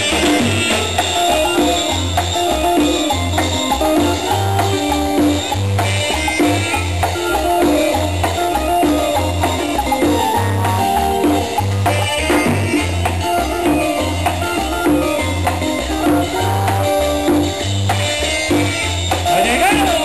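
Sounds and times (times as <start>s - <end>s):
latin dance band playing: 0.0s - 20.0s.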